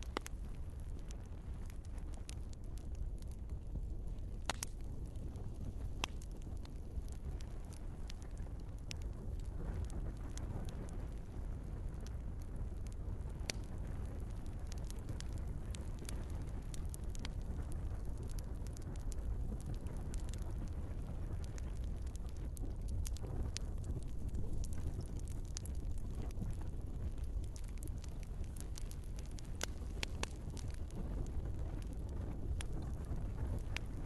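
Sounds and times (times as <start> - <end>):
fire flames rumbling: 0.0 - 34.0
logs crackling and popping: 0.0 - 34.0.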